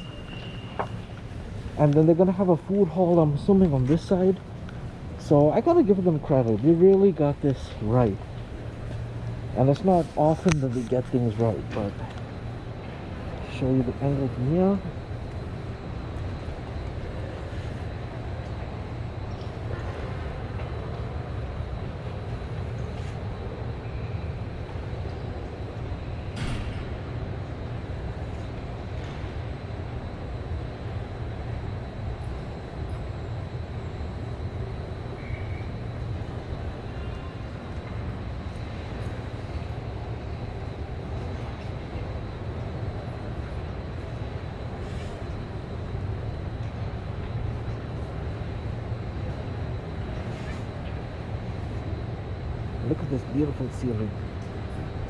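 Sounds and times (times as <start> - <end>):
low rumble of station concourse: 0.0 - 55.0.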